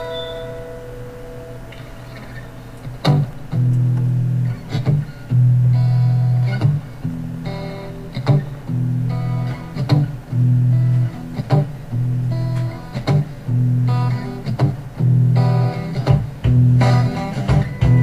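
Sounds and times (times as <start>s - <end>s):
guitar song with steady beat: 0.0s - 18.0s.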